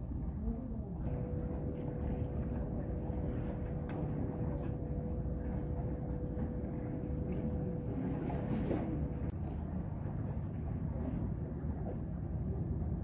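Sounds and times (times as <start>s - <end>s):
faint constant hum: 0.0s - 13.0s
low seaside rumble: 0.0s - 13.0s.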